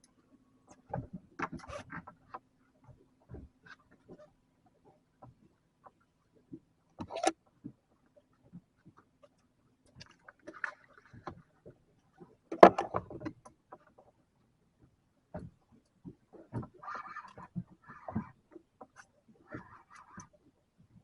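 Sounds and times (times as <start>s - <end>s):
knocks and thumps aboard boat: 0.7s - 21.0s.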